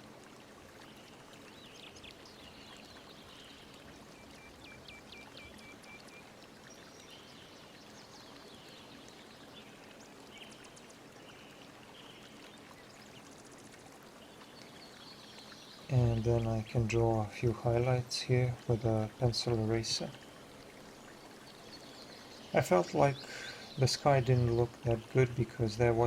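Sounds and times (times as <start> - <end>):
running water: 0.0 - 26.0
birds chirping: 0.9 - 26.0.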